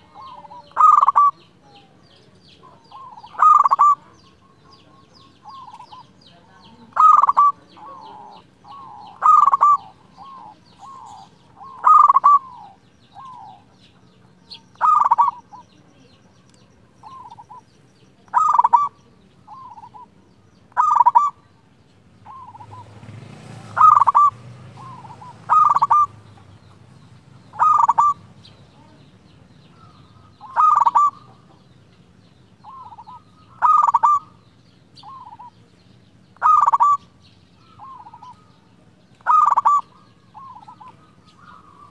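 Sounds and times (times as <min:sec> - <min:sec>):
dove cooing: 0:00.0 - 0:21.6, 0:22.2 - 0:31.7, 0:32.6 - 0:41.9.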